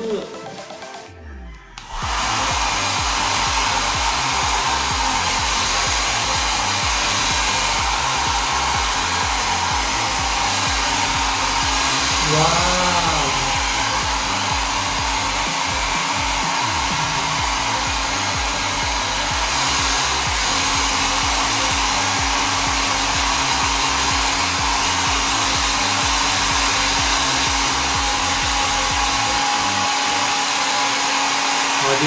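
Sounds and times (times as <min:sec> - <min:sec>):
hair dryer running: 0:01.5 - 0:32.0.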